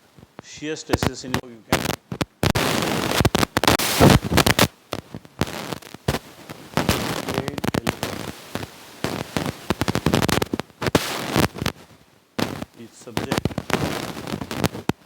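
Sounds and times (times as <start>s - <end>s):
crackling and clicking noise: 0.0s - 15.0s.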